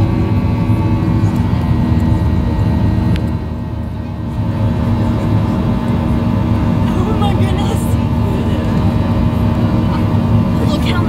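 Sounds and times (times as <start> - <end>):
jet engines rumbling: 0.0 - 11.0
steady whining tones: 0.0 - 11.0.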